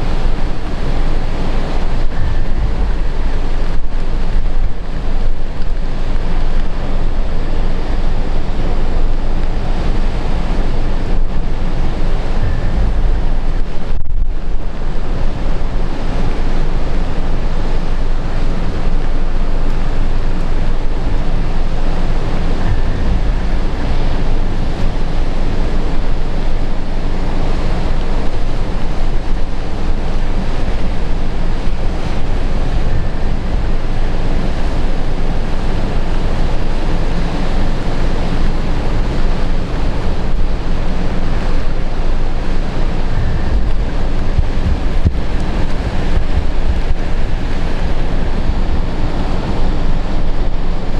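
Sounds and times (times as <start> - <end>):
heavy surf pounding the shore: 0.0 - 50.9
wind buffeting the microphone: 0.0 - 50.9.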